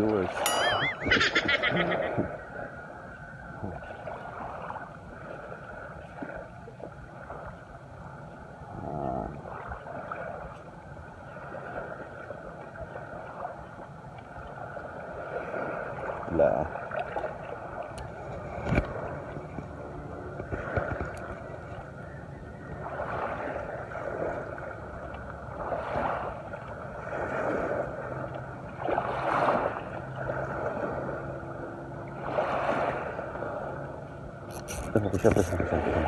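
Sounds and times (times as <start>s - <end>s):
small waves lapping: 0.0s - 36.0s.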